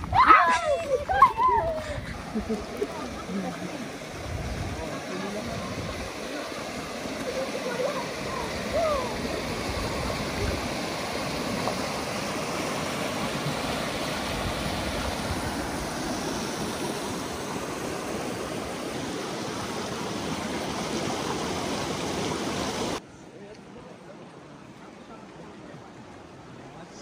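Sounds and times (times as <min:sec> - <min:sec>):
flowing stream water: 0:00.0 - 0:27.0.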